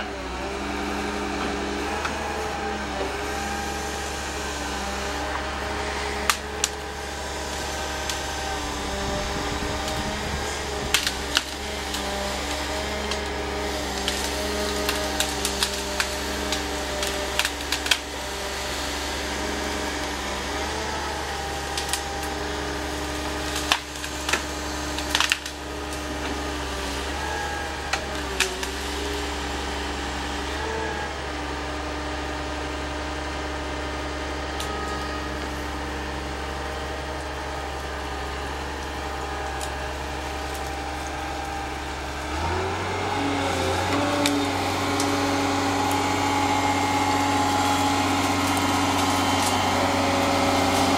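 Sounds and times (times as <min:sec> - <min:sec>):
excavator diesel engine running: 0:00.0 - 0:50.9
wood cracking and snapping: 0:01.3 - 0:31.0, 0:34.5 - 0:50.9.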